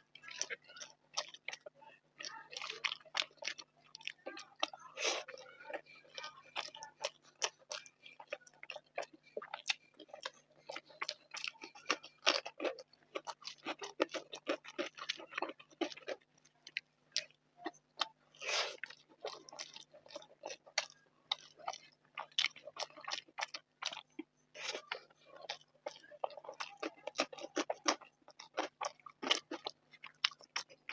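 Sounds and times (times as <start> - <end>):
person chewing food: 0.0 - 30.9.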